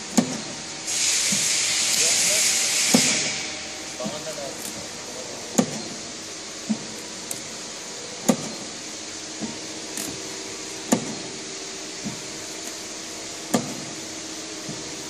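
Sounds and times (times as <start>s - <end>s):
machine motor hum: 0.0s - 15.0s.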